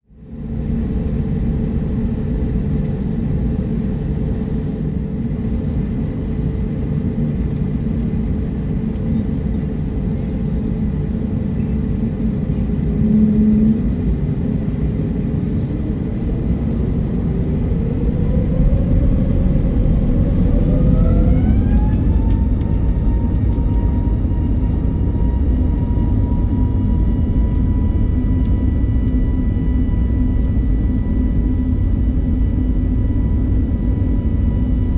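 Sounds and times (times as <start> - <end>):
jet engines rumbling and whining: 0.1 - 34.9.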